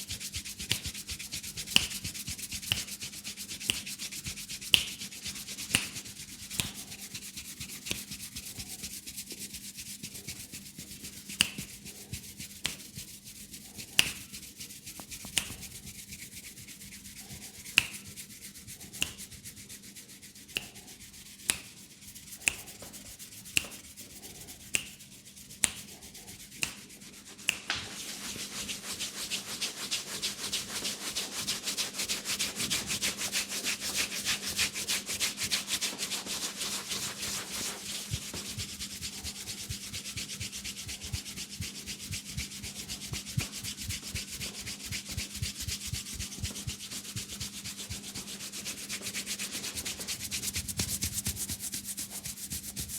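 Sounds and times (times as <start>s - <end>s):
fingers rubbing through hair: 0.0s - 52.9s.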